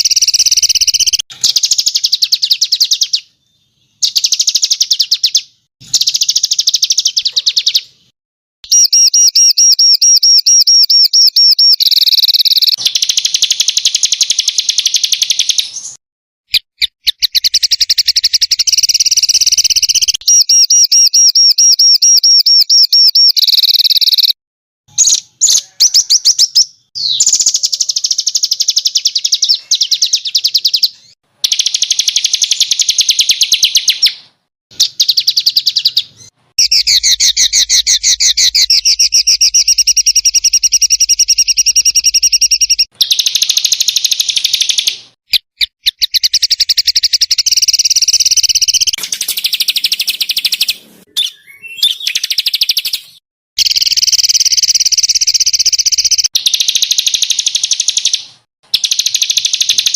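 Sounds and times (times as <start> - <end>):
songbirds singing harsh trills: 0.0 - 59.9.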